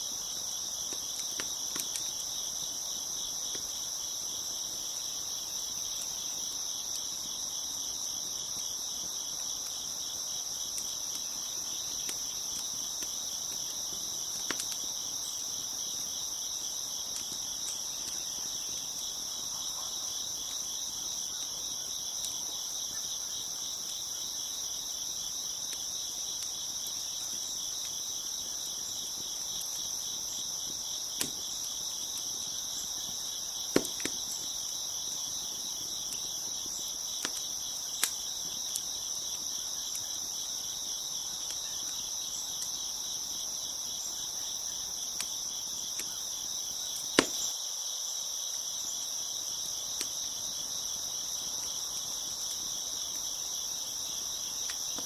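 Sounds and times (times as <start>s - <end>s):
crickets chirping: 0.0s - 55.0s
wood fire crackling pops: 0.3s - 43.4s, 47.0s - 47.6s, 54.0s - 55.0s.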